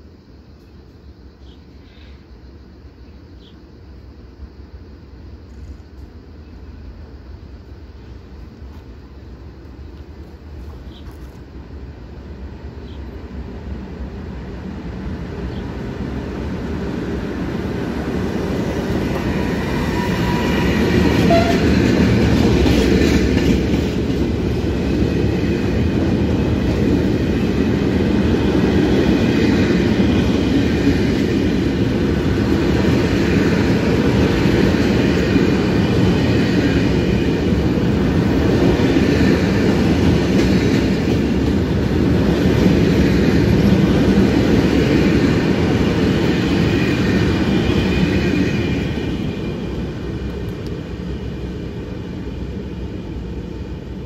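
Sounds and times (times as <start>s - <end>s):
electric locomotive passing: 0.0s - 54.0s
freight wagons wheel-on-rail noise: 0.0s - 54.0s.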